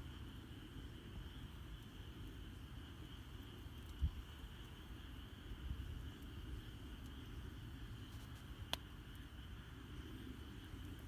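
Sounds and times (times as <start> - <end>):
campfire crackles: 0.0 - 11.0
night insects chirring: 0.0 - 11.0.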